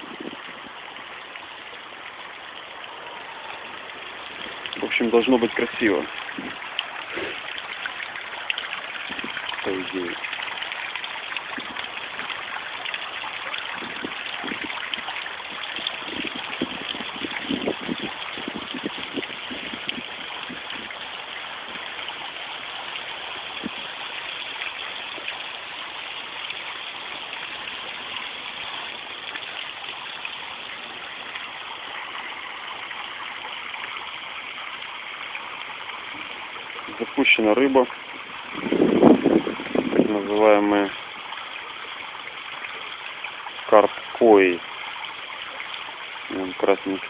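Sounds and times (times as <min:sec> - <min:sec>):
water gurgling: 0:00.0 - 0:47.0
waterfall splashing into pond: 0:00.0 - 0:47.0.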